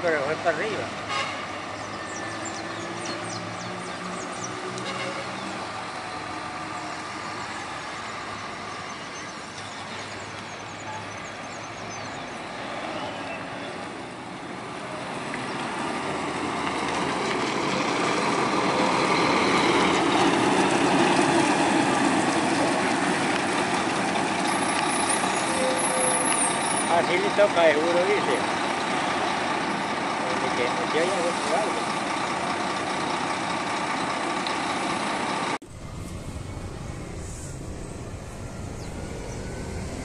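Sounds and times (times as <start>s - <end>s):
bus diesel engine passing: 0.0s - 40.0s.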